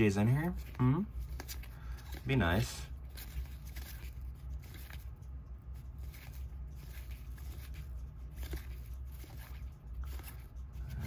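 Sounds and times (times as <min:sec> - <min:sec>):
cards rustling and ticking: 0:00.0 - 0:11.0
steady low hum: 0:00.0 - 0:11.0.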